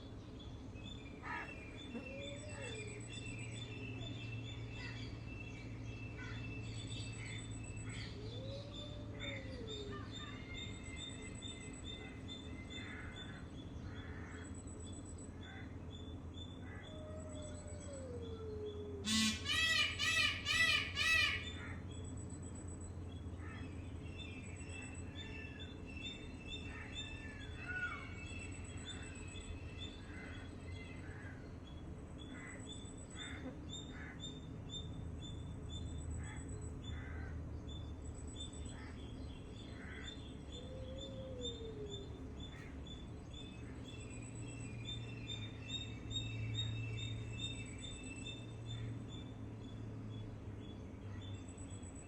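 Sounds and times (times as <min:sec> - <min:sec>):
steady low hum: 0:00.0 - 0:52.0
wild birds chirping and singing: 0:00.0 - 0:52.0
loud bird calls: 0:00.8 - 0:22.1, 0:23.3 - 0:35.4, 0:36.2 - 0:49.4.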